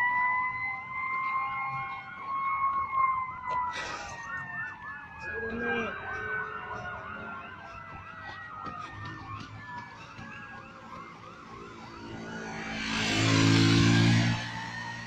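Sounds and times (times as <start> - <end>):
siren fast yelp: 0.0 - 15.0
siren tone sliding down: 0.0 - 15.0.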